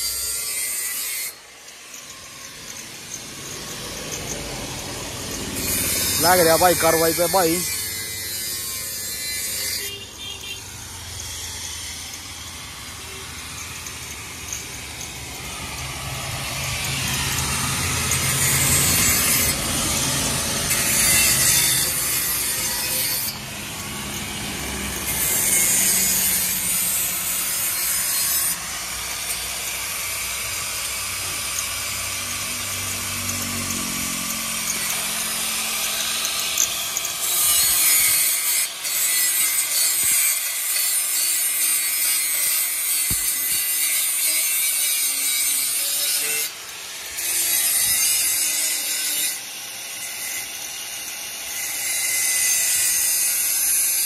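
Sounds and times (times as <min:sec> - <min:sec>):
angle grinder grinding metal pipe: 0:00.0 - 0:54.0.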